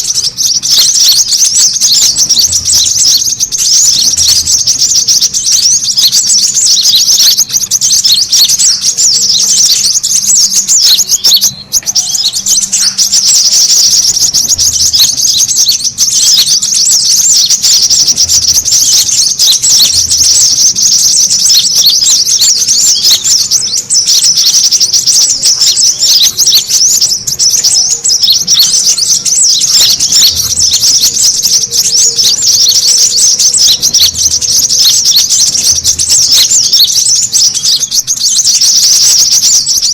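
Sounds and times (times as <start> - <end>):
sunbirds chirping in chorus: 0.0 - 39.9.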